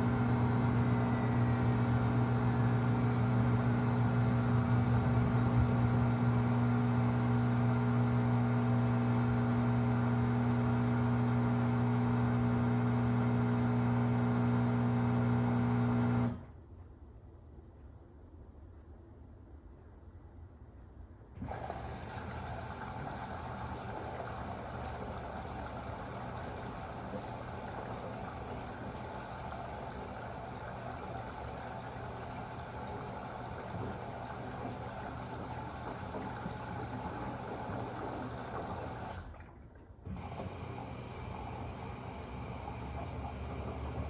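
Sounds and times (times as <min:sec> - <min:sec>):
washing machine loud buzzing: 0:00.0 - 0:16.5, 0:21.4 - 0:44.0.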